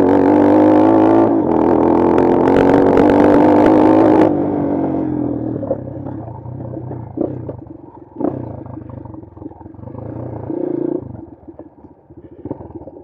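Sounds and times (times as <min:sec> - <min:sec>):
motorcycle engine revving: 0:00.0 - 0:11.3.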